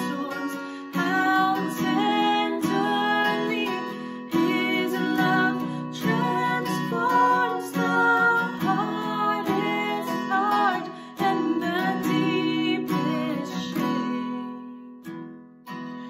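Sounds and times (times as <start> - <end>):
women singing: 0.0 - 14.6
strummed acoustic guitar: 0.0 - 16.0.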